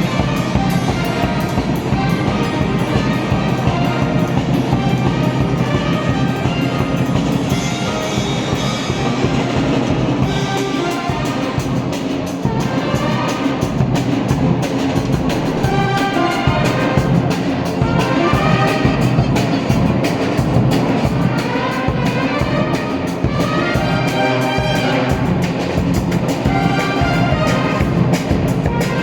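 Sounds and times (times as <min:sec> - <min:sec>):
brass and drums music: 0:00.0 - 0:29.0.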